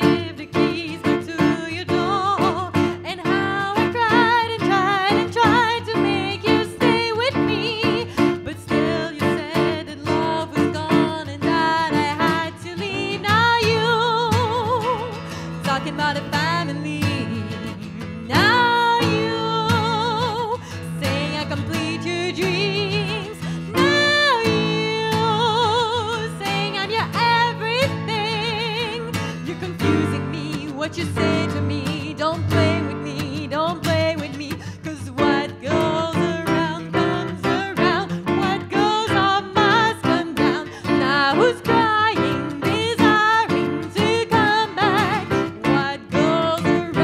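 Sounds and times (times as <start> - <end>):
acoustic guitar strumming: 0.0 - 47.0
woman singing with vibrato: 0.0 - 47.0.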